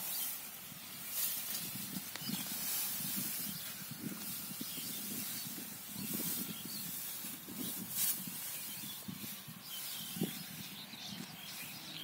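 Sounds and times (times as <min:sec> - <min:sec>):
dry straw rustling: 0:00.0 - 0:12.0
wind rumbling on microphone: 0:00.1 - 0:12.0.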